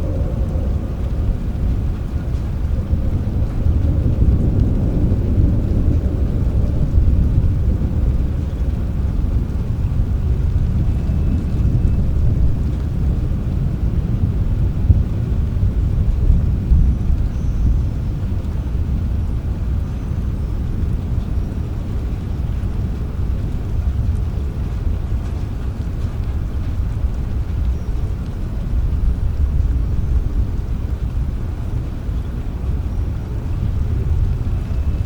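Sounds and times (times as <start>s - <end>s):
distant thunder rumbling: 0.0s - 35.0s
steady rain: 0.0s - 35.0s.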